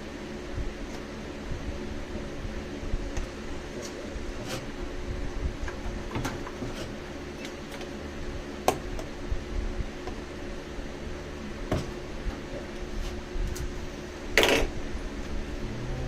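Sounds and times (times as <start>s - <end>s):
electric fans humming: 0.0s - 16.0s.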